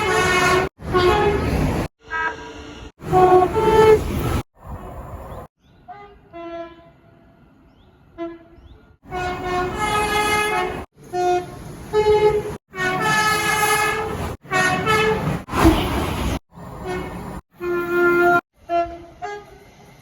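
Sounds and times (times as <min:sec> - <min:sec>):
train horns: 0:00.0 - 0:04.4, 0:05.9 - 0:07.4, 0:08.1 - 0:16.1, 0:16.8 - 0:20.0.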